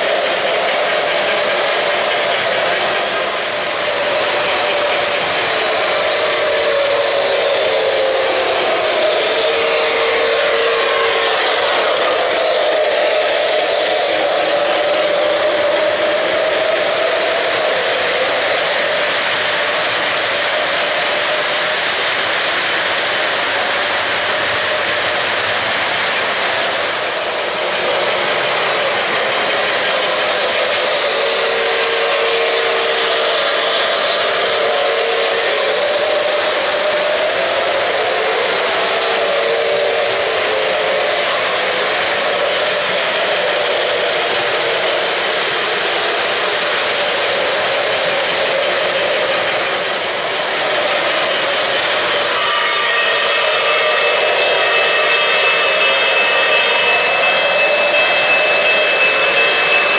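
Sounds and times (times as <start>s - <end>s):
model train wheels clattering: 0.0s - 59.9s.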